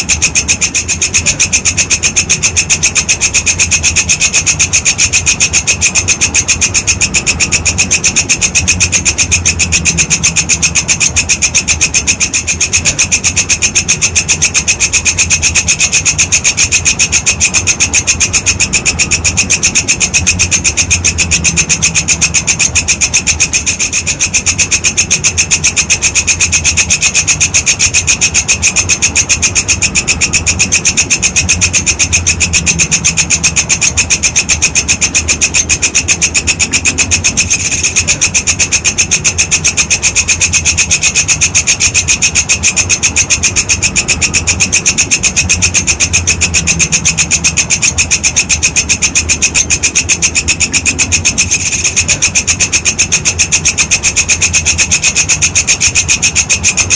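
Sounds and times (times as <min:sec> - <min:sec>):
insect calling with scraping pulses: 0:00.0 - 0:56.9
low hum: 0:00.0 - 0:56.9.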